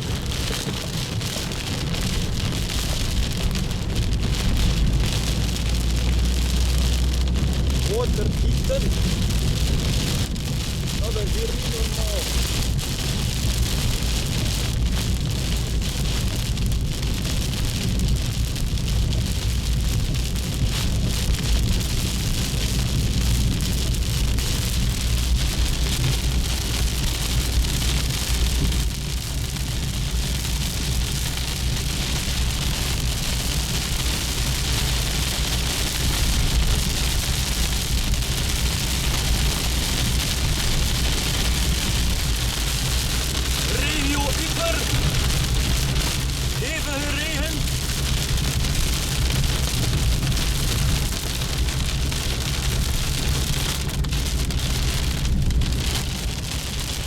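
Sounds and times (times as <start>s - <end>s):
car engine rumbling: 0.0s - 57.0s
heavy rain pattering on a car: 0.0s - 57.0s.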